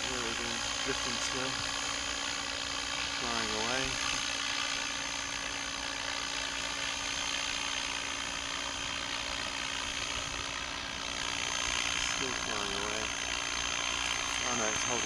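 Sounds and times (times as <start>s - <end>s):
radio-controlled helicopter humming: 0.0s - 15.0s.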